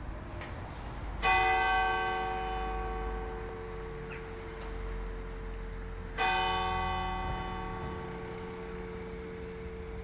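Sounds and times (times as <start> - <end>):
church bell tolling: 1.2 - 10.0.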